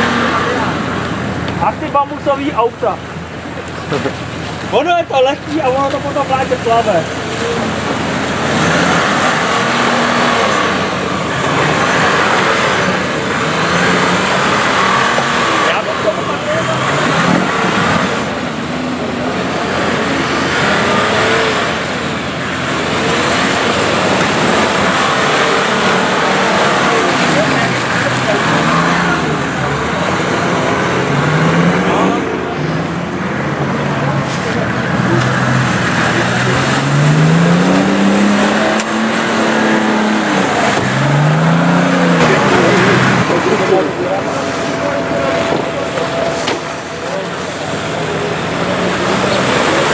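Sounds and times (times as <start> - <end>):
car engine running: 0.0 - 49.9
driving noise rush: 0.0 - 49.9.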